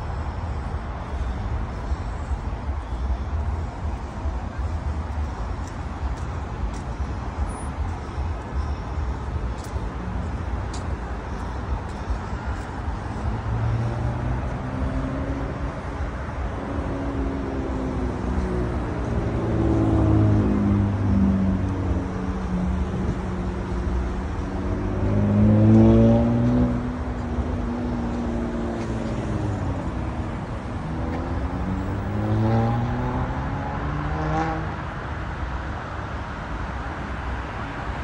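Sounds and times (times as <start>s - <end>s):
highway traffic rumble: 0.0s - 38.0s
passing vehicle engines: 0.0s - 38.0s.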